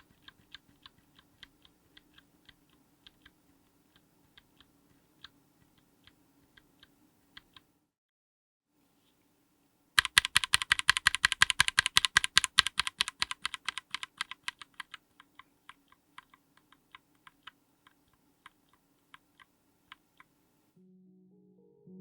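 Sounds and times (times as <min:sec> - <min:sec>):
mechanical keyboard keystroke clacks: 0:00.0 - 0:07.7, 0:10.0 - 0:20.4.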